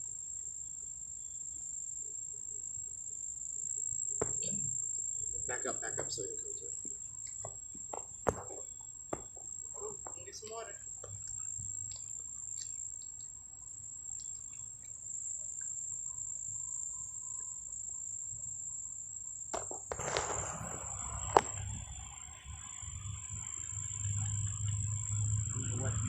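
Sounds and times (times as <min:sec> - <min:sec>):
high-pitched insect drone: 0:01.0 - 0:26.0.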